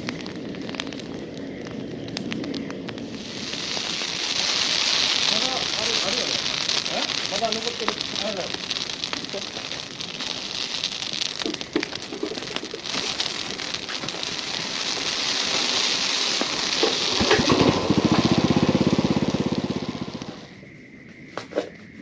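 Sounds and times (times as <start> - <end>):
bonfire crackling and hissing: 0.0 - 22.0.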